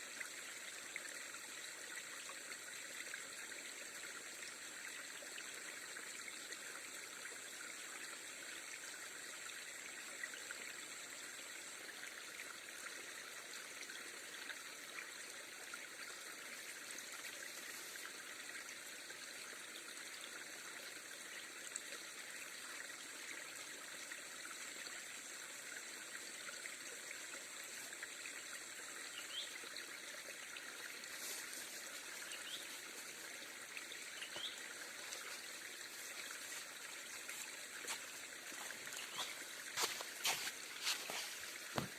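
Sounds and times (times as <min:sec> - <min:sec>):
river water trickling: 0:00.0 - 0:41.9.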